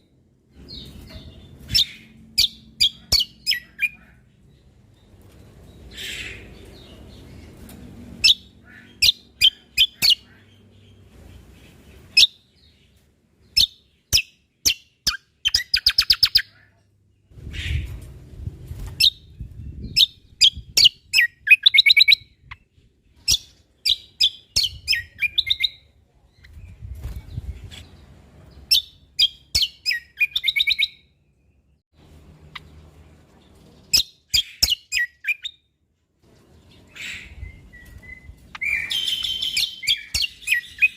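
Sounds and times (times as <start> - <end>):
bird chirping and trilling: 0.6 - 7.6, 8.2 - 18.0, 18.8 - 31.8, 33.8 - 35.7, 36.7 - 40.9.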